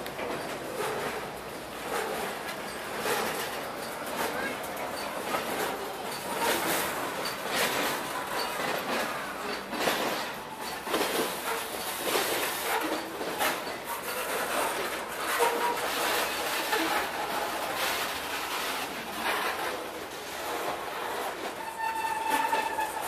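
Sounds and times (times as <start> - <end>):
train wheels rumbling on rails: 0.0 - 23.0
wheels clacking over rail joints: 0.0 - 23.0.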